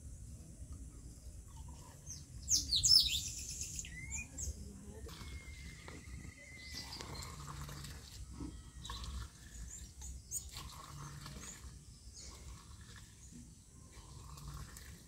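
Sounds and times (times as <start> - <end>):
small birds chirping: 1.0 - 8.1, 8.7 - 14.6.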